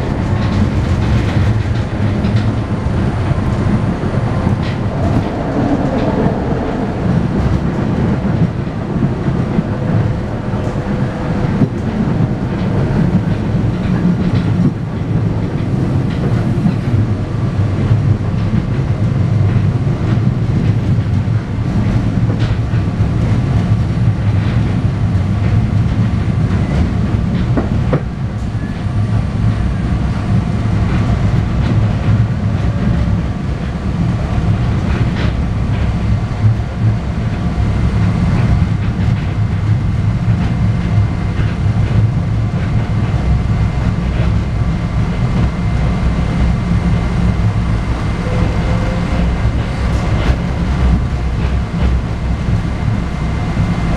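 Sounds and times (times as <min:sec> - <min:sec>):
train interior rumble: 0:00.0 - 0:53.9.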